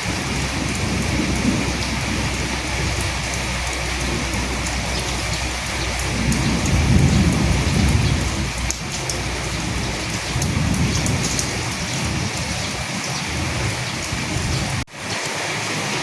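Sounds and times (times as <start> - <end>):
distant thunder rolls: 0.0 - 14.9
rain pattering: 0.0 - 16.0.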